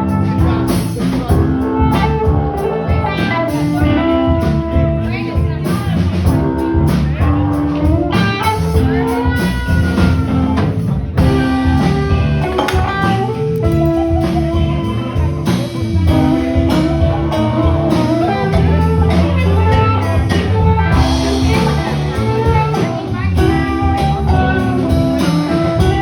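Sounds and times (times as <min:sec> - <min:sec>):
live guitar music: 0:00.0 - 0:26.0.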